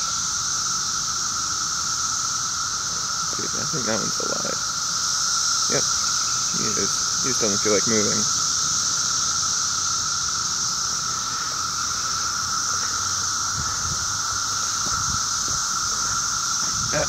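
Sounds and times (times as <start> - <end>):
cicadas high-pitched squeal: 0.0 - 17.0
lower steady cicada tone: 0.0 - 17.0.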